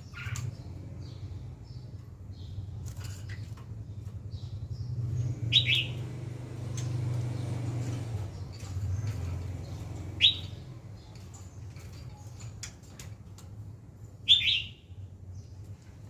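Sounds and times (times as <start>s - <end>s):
bird chirping: 0.0s - 13.5s, 14.1s - 16.0s.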